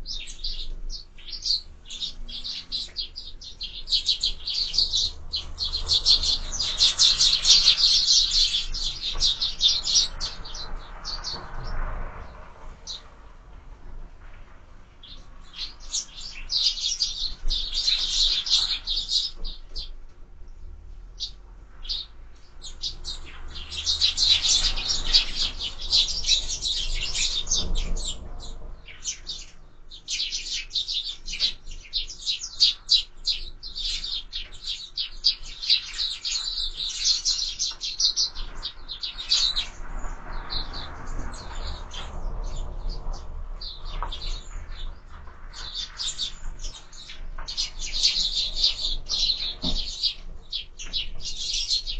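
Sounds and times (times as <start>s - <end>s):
sparrows chirping: 0.0s - 13.2s, 14.9s - 51.9s.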